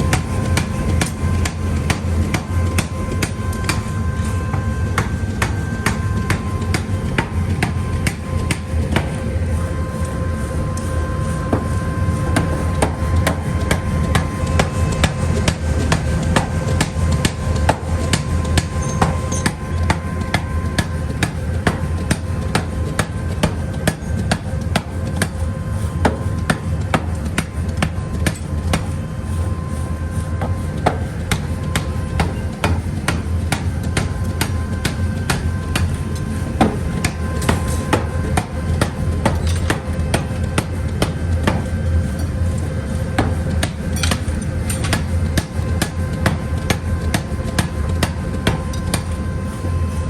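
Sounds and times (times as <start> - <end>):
low machine hum: 0.0 - 50.0
hammer striking metal: 0.1 - 9.2, 12.4 - 25.3, 26.0 - 29.0, 30.4 - 42.3, 43.2 - 49.2.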